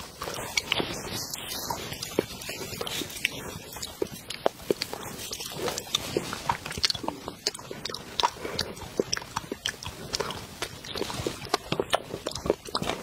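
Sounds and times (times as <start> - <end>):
biting and chewing: 0.0 - 13.0
mouth clicks and smacks: 0.0 - 13.0.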